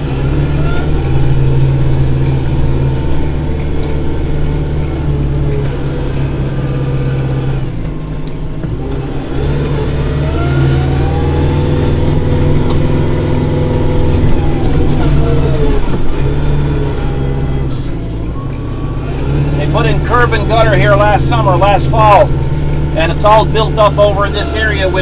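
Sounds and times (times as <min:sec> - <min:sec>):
snow blower working through snow: 0:00.0 - 0:25.0
tractor diesel engine running: 0:00.0 - 0:25.0.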